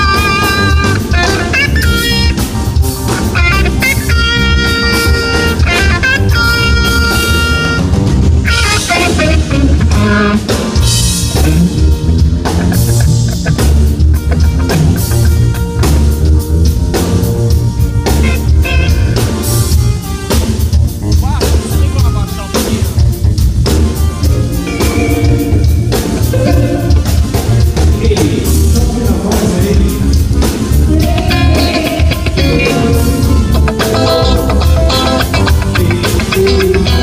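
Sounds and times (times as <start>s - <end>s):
bass line: 0.0s - 37.0s
drum kit beat: 0.0s - 37.0s
electric guitar lead: 0.0s - 37.0s.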